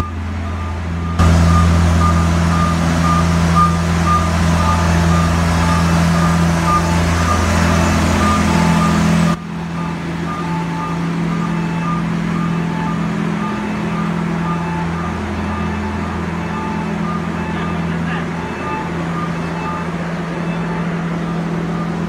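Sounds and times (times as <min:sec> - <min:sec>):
low machinery hum: 0:00.0 - 0:22.0
two-pitch alarm beeping: 0:00.0 - 0:22.0.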